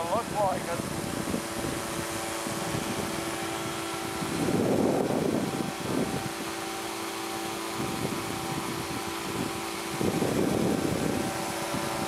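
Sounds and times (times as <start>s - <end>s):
engine and propeller droning: 0.0s - 12.0s.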